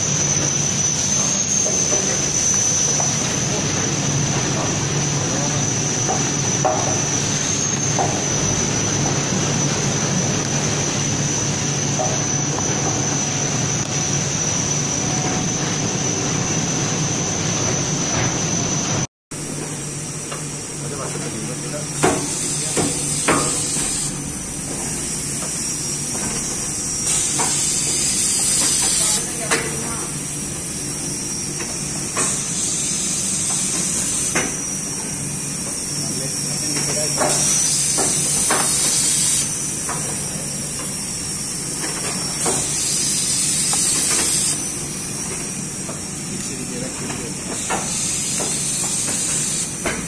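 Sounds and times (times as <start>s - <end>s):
machine hum with hiss: 0.0s - 50.0s.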